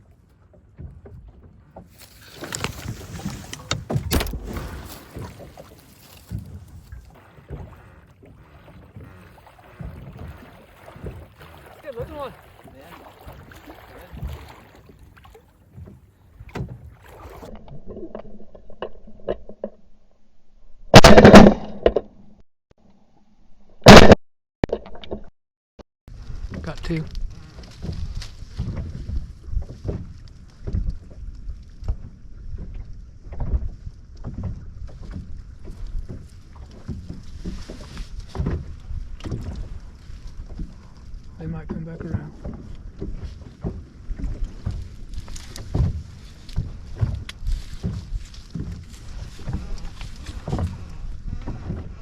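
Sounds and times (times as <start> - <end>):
water against boat: 0.0 - 19.8, 26.1 - 52.0.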